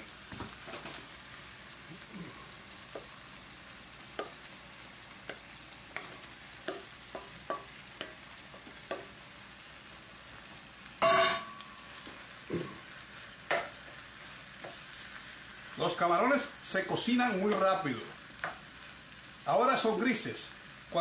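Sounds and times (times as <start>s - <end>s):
shrimp sizzling in a frying pan: 0.0s - 21.0s.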